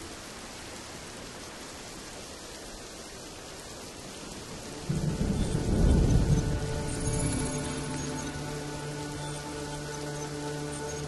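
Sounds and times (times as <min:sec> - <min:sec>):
rain on a hard surface: 0:00.0 - 0:11.0.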